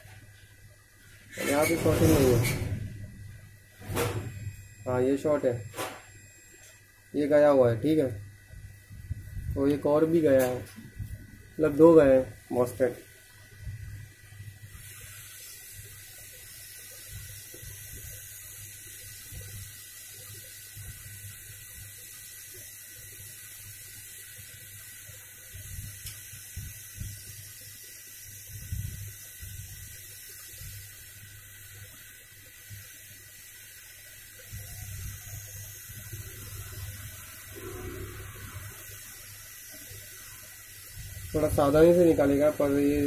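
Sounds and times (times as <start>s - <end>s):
hot-air gun hissing: 1.0s - 43.0s.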